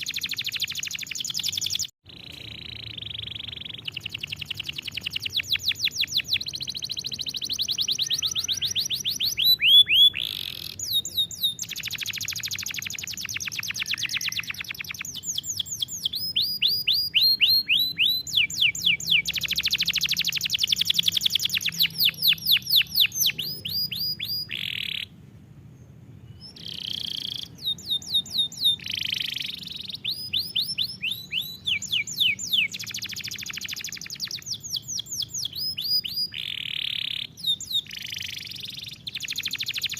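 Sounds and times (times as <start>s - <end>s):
canary singing fast trills: 0.0s - 25.2s, 25.8s - 39.9s.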